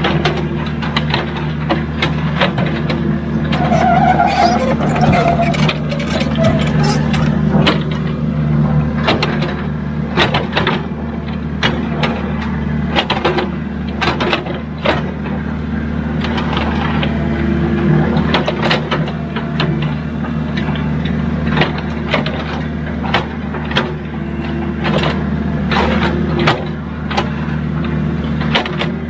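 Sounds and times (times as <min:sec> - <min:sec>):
excavator diesel engine: 0:00.0 - 0:29.0.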